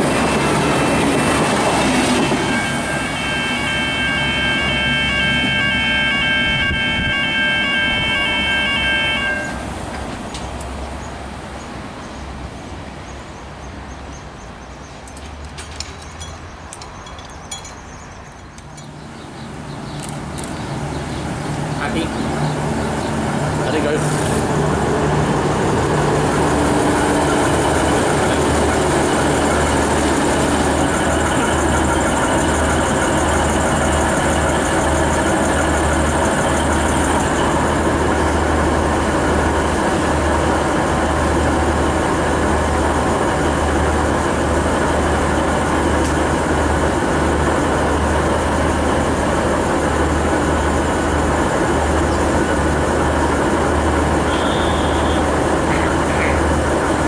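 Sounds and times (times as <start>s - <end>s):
train diesel engines idling: 0.0s - 57.0s.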